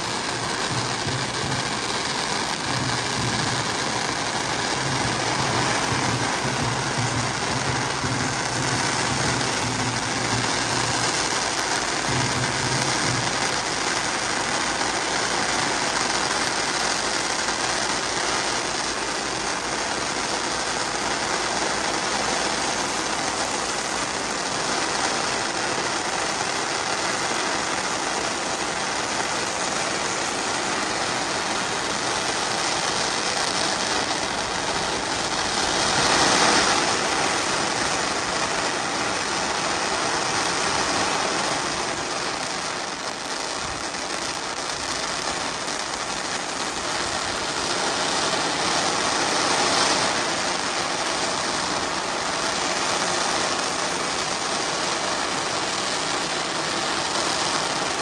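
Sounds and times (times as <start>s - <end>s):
background noise: 0.0s - 58.0s.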